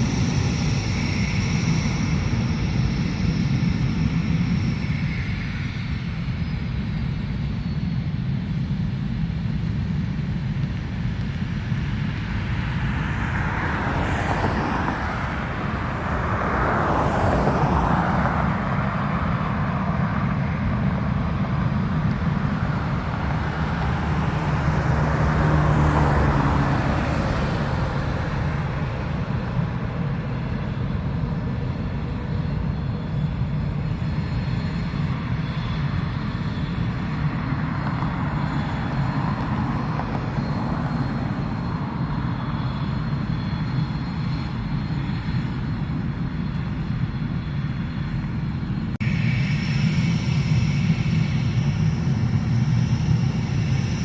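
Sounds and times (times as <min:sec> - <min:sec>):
jet engine rumble and whine: 0:00.0 - 0:54.0.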